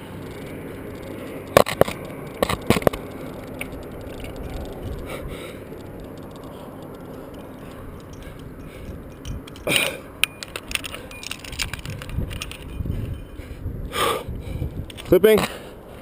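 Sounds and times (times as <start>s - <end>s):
rustling and scraping on rock: 0.2s - 13.1s
sharp clicks: 0.2s - 13.2s.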